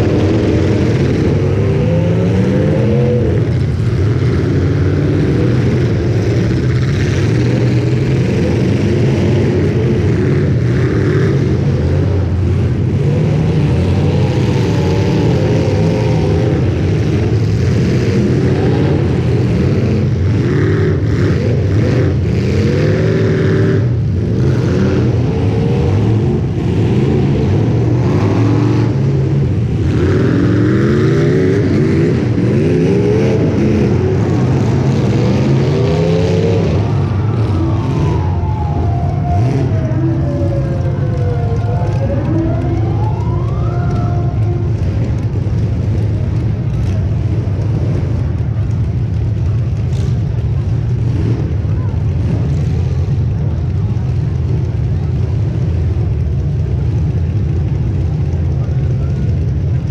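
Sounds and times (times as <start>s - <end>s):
car engines revving: 0.0s - 59.9s
low engine drone: 0.0s - 59.9s.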